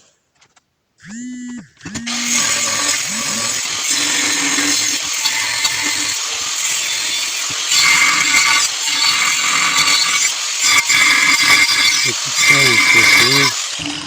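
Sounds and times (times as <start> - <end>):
angle grinder grinding metal: 1.0 - 14.0.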